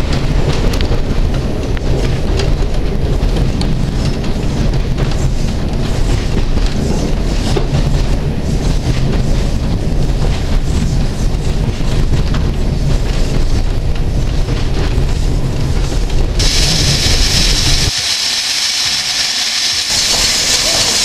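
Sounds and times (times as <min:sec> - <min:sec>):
wind buffeting microphone: 0:00.0 - 0:17.9
train rumbling: 0:00.0 - 0:21.0.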